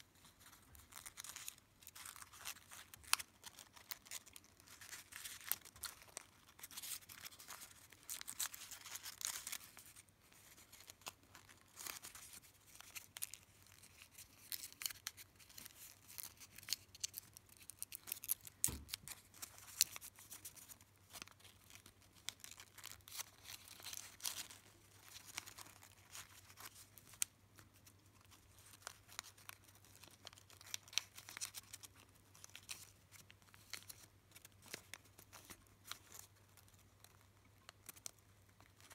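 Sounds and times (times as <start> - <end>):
paper rustling and crinkling: 0.1 - 38.9.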